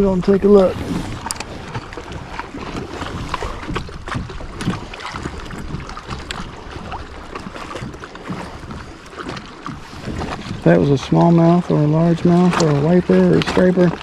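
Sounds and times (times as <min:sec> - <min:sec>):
water splashing against kayak: 0:00.0 - 0:14.0
wind rumbling on microphone: 0:00.0 - 0:14.0.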